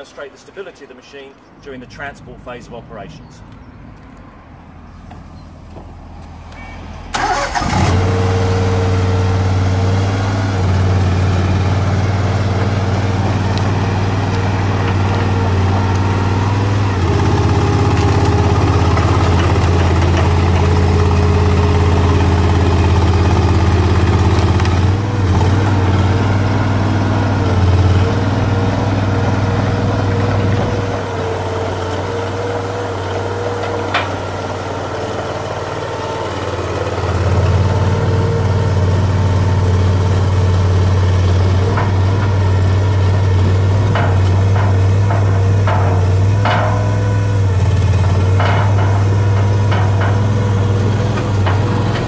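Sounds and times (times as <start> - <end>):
crane engine running: 5.0 - 52.0.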